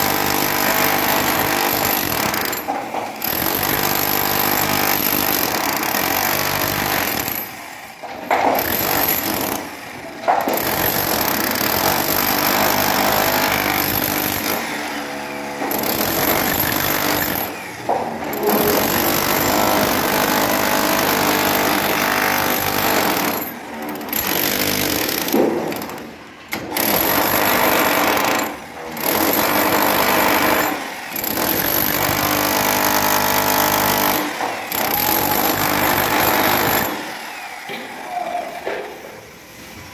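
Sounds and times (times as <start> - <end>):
demolition hammer chiselling concrete: 0.0 - 38.1.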